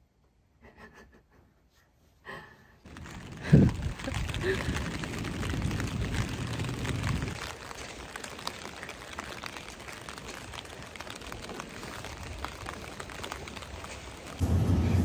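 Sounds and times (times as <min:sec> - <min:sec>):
rain on an umbrella: 0:02.8 - 0:15.0.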